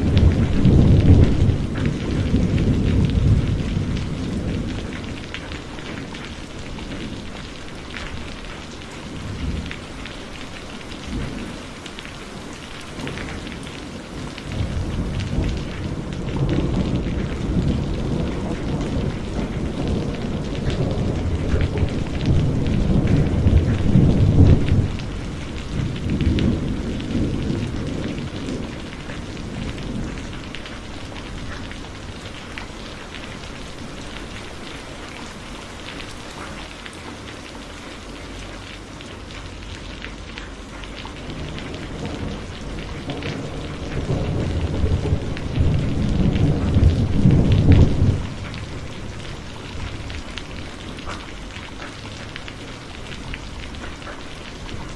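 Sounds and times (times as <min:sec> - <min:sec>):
rolling thunder: 0:00.0 - 0:10.1, 0:12.8 - 0:36.1, 0:41.1 - 0:54.9
heavy rain falling: 0:00.0 - 0:54.9.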